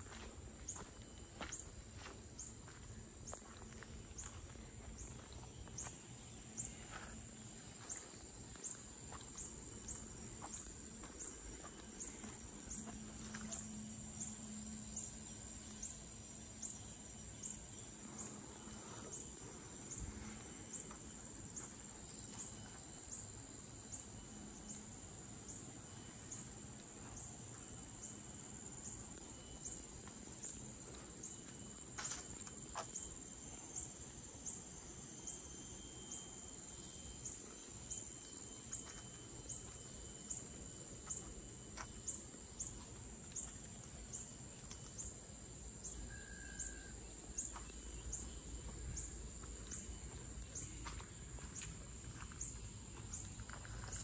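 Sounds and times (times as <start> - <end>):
high-pitched insect drone: 0.0 - 54.0
insect chirping rhythmically: 0.0 - 54.0.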